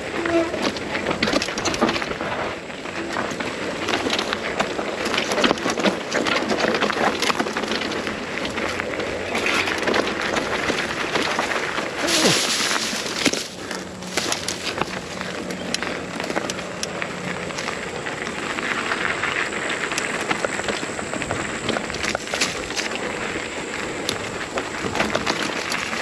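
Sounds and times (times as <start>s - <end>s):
bike rattling over bumps: 0.0s - 26.0s
tyres crunching over rock: 0.6s - 26.0s.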